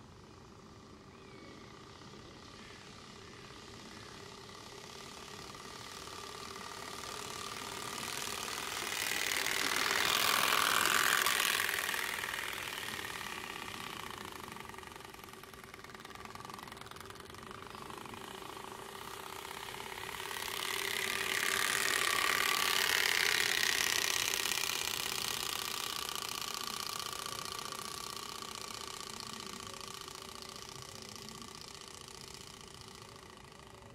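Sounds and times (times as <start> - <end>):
cards rattling against bicycle spokes: 1.7 - 33.9.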